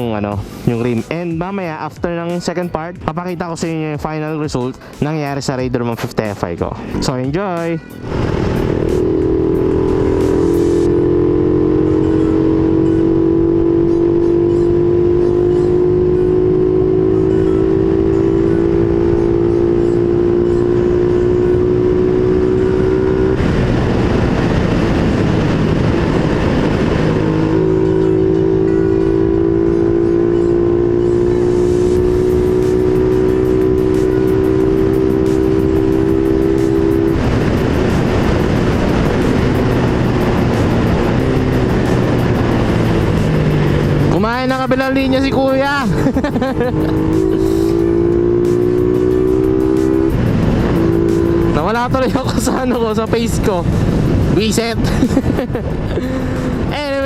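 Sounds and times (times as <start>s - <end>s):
motorcycle engine running: 6.8s - 57.0s.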